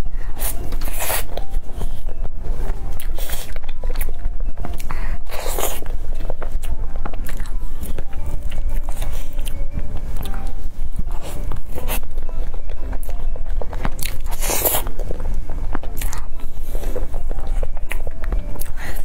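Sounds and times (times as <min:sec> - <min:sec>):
wet chewing: 0:00.3 - 0:19.0.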